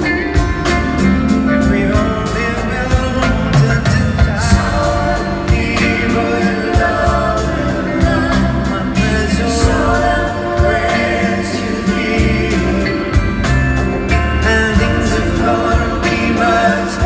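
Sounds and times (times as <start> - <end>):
acoustic guitar: 0.0 - 17.0
bass: 0.0 - 17.0
man singing: 0.0 - 17.0.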